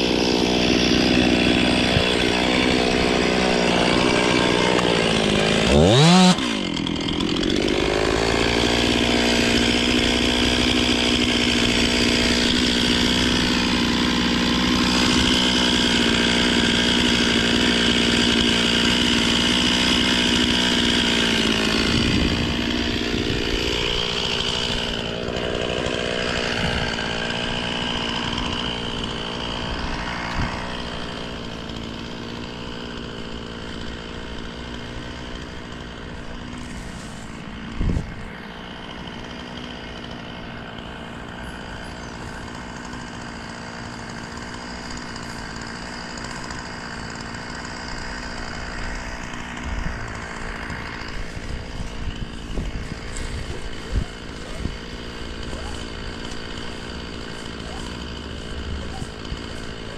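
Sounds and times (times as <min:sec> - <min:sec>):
chainsaw running at high revs: 0:00.0 - 0:59.9.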